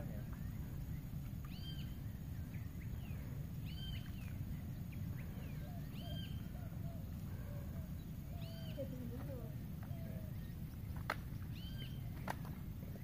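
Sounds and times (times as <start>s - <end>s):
birds calling: 0.0s - 13.0s
low background rumble: 0.0s - 13.0s.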